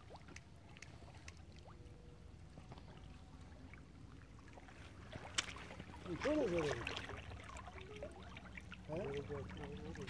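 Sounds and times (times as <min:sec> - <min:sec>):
shallow river water moving: 0:00.0 - 0:10.0.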